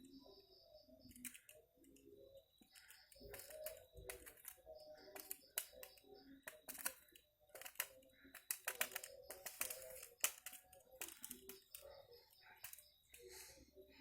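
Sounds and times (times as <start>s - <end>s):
faint steady high tone: 0.0s - 14.0s.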